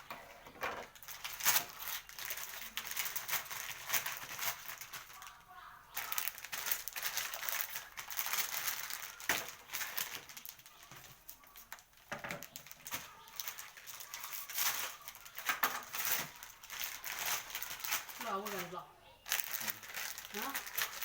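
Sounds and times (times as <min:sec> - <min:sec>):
plastic packaging rustling: 0:00.0 - 0:21.0.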